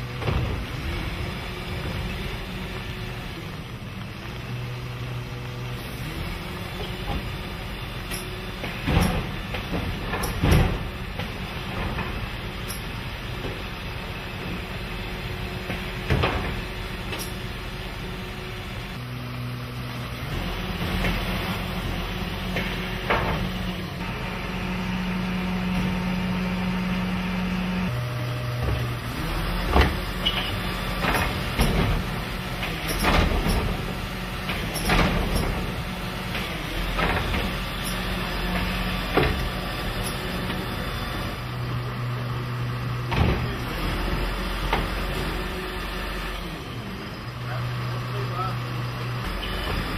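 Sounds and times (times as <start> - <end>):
garbage truck engine and hydraulics: 0.0 - 49.9.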